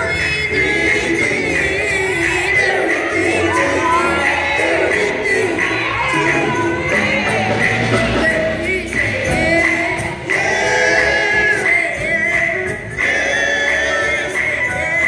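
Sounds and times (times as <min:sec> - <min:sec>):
bass guitar: 0:00.0 - 0:15.0
drum kit: 0:00.0 - 0:15.0
keyboard: 0:00.0 - 0:15.0
singers singing together: 0:00.0 - 0:15.0.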